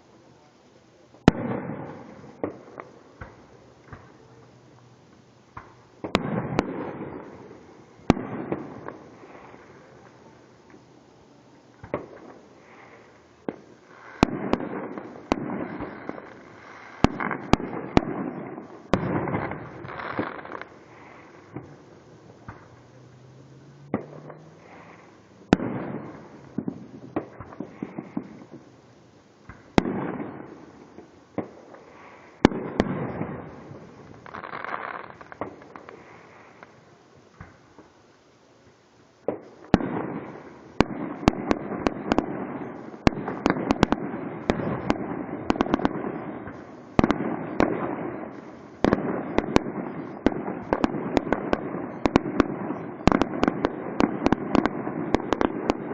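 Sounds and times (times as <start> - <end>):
fireworks crackling barrage: 0.0 - 55.9
fireworks bangs with echo: 1.0 - 4.6, 5.5 - 10.8, 11.6 - 23.0, 23.8 - 28.8, 29.4 - 37.9, 39.2 - 55.9.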